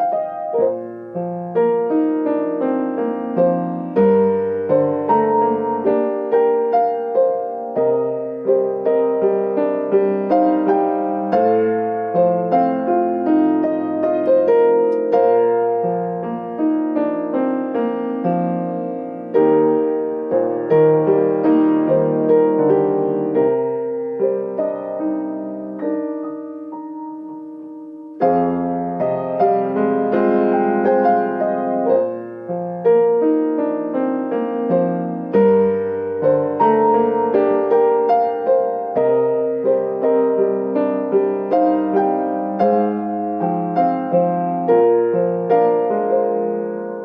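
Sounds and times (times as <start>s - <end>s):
solo piano: 0.0s - 47.0s.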